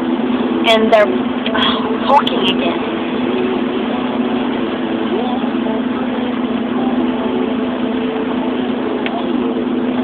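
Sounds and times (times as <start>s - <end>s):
car engine hum: 0.0s - 10.0s
road noise inside car: 0.0s - 10.0s.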